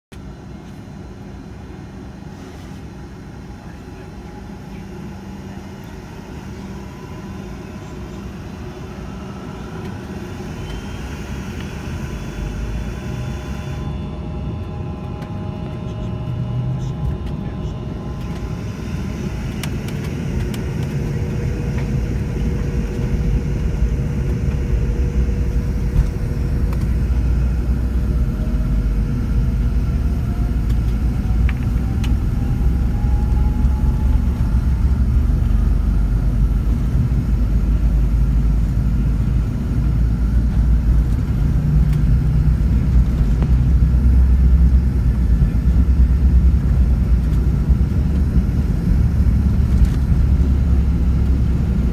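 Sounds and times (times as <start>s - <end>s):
jet engine cabin rumble: 0.1s - 51.9s.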